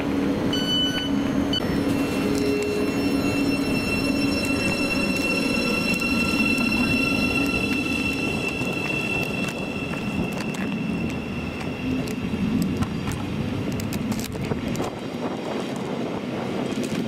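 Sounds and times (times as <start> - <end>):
train wheel and rail noise: 0.0 - 17.0.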